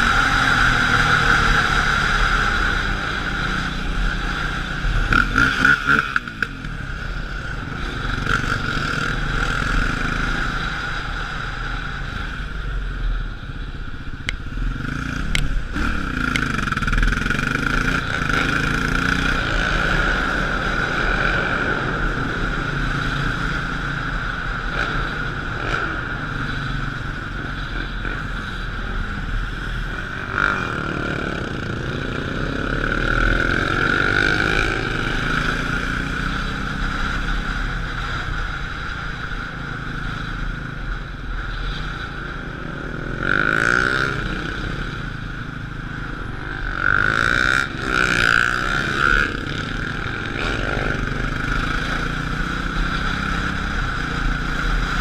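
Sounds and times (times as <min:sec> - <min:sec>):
motorcycle engine revving: 0:00.0 - 0:11.9, 0:14.4 - 0:55.0.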